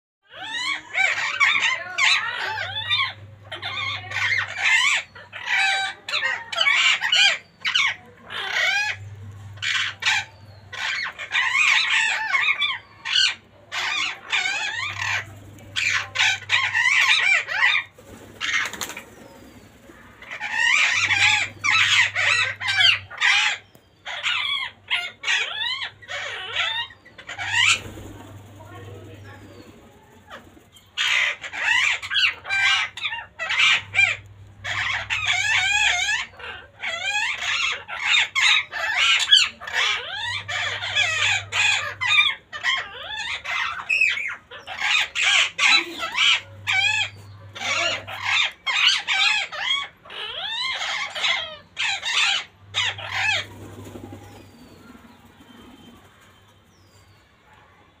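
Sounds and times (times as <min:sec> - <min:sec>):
parakeet squawking: 0:00.3 - 0:56.9.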